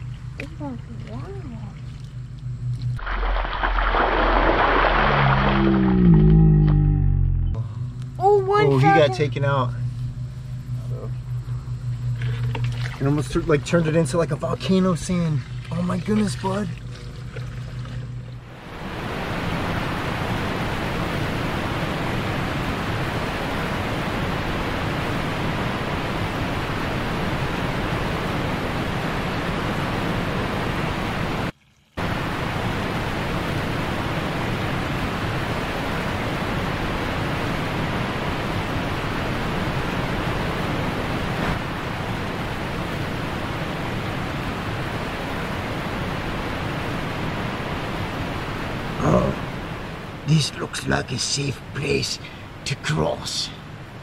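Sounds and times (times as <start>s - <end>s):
running water rushing: 3.0s - 6.5s, 12.5s - 52.6s.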